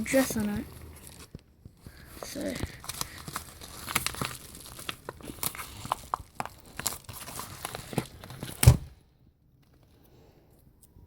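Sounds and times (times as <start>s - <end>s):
packaging crinkling and tearing: 0.0s - 9.0s.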